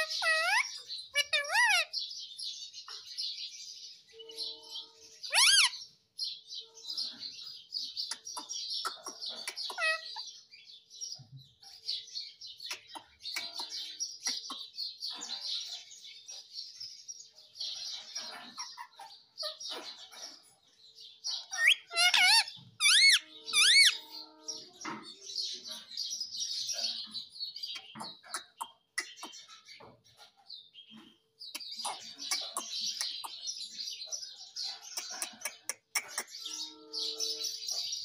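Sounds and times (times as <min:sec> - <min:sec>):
parakeet chirping and chattering: 0:00.0 - 0:38.0.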